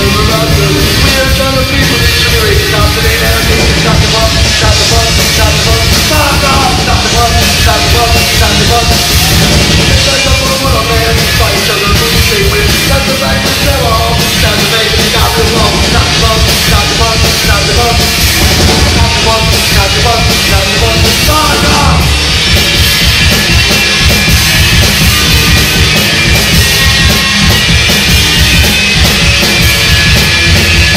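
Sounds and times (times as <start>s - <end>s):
live rock band playing loudly: 0.0s - 30.9s.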